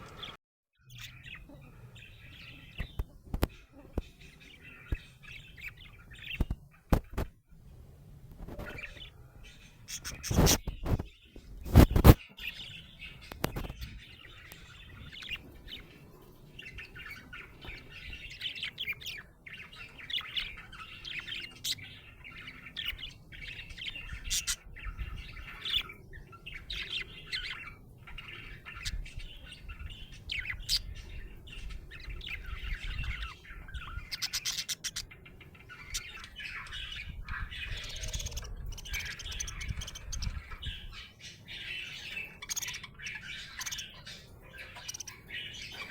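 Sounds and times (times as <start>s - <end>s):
budgerigar chirping and warbling: 0.9s - 7.2s, 8.5s - 11.0s, 11.7s - 16.0s, 16.6s - 45.9s.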